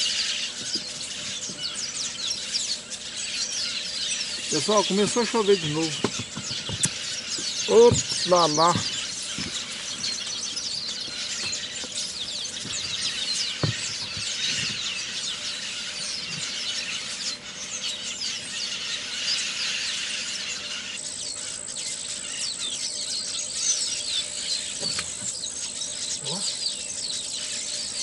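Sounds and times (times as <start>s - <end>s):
squeaky bird calls chorus: 0.0s - 28.0s.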